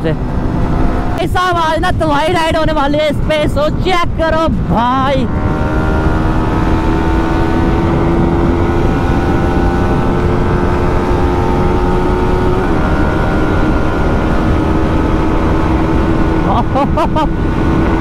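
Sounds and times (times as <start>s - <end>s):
motorcycle engine at speed: 0.0s - 18.0s
wind rumble on microphone: 0.0s - 18.0s.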